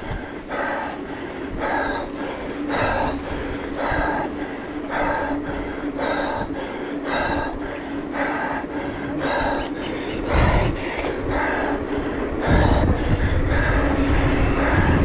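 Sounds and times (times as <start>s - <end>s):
low rumble: 0.0s - 15.0s
person panting hard: 0.0s - 15.0s
steady hum: 0.0s - 15.0s.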